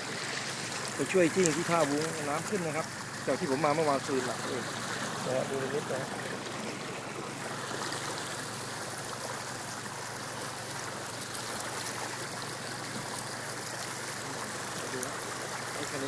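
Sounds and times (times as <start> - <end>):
vehicle rushing through floodwater: 0.0 - 16.0.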